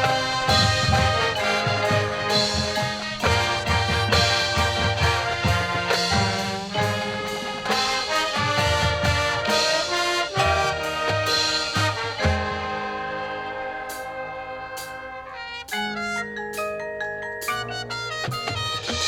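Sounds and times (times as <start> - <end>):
marching band brass playing: 0.0 - 16.7, 17.5 - 19.0.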